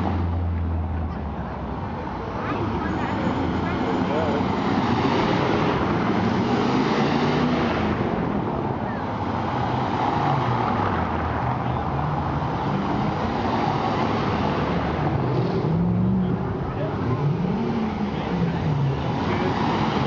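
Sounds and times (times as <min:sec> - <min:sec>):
cars driving slowly: 0:00.0 - 0:20.0.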